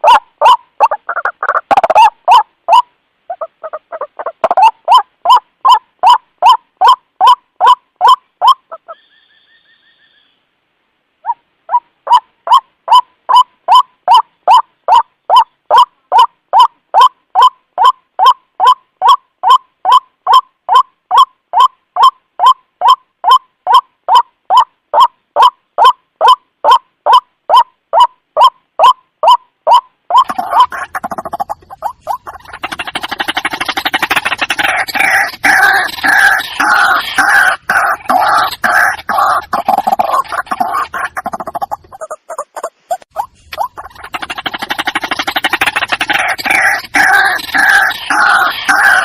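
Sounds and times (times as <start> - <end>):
waterhen repeated call: 0.0 - 10.4, 11.2 - 49.0.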